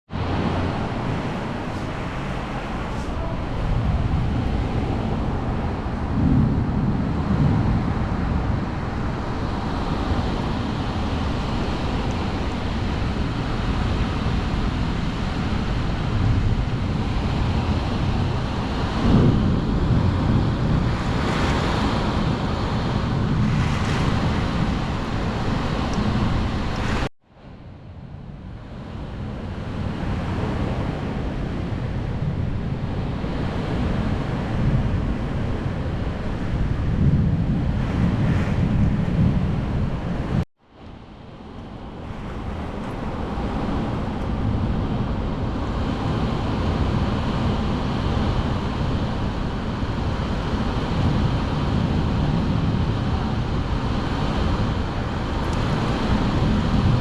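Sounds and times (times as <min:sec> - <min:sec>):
rain: 0:00.1 - 0:27.1, 0:28.6 - 0:40.4, 0:41.4 - 0:57.0
storm wind: 0:00.1 - 0:57.0
wind buffeting microphone: 0:00.1 - 0:57.0.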